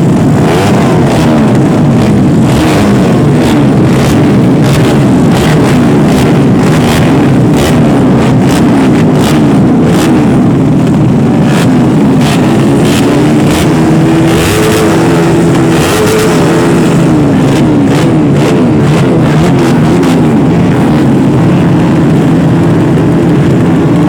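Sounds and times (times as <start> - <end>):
racing motorcycle engines revving: 0.0 - 24.0.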